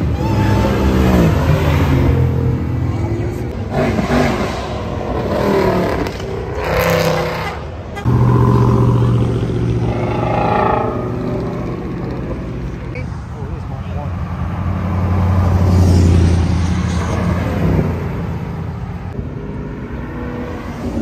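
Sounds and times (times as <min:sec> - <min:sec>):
car engines revving and accelerating: 0:00.0 - 0:21.0.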